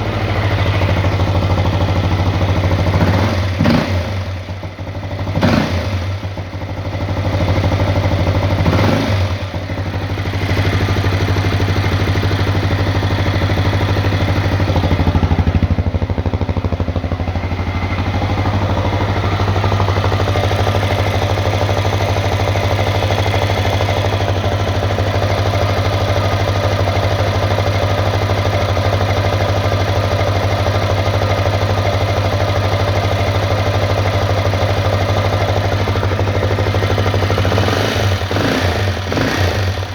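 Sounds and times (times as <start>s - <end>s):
motorcycle engine knocking: 0.0s - 39.9s.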